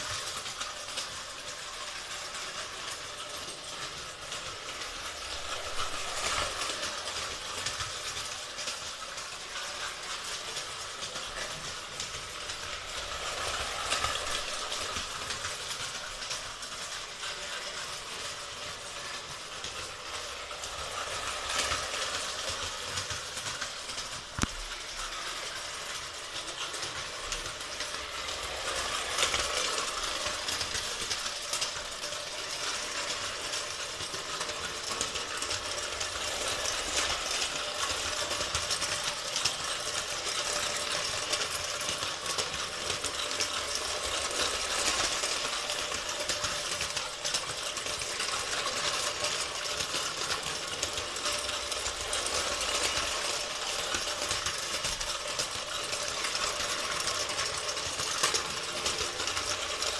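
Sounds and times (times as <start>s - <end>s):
toy steam engine clatter: 0.0s - 59.9s.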